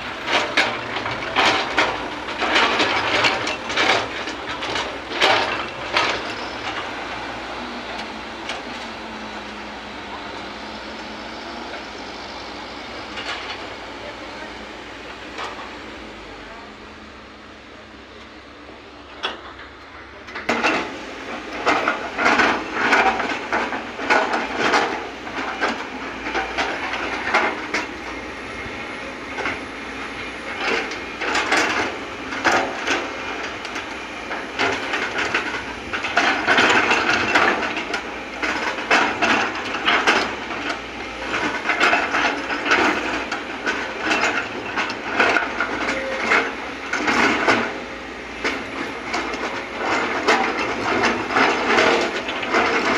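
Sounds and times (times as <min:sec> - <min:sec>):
excavator engine and hydraulics: 0:00.0 - 0:52.9.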